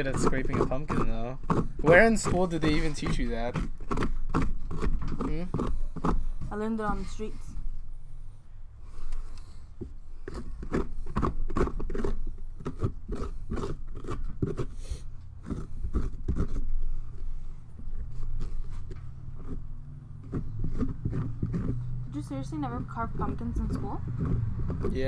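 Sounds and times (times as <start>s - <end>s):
pumpkin being scraped out: 0.0s - 7.7s, 8.9s - 25.0s.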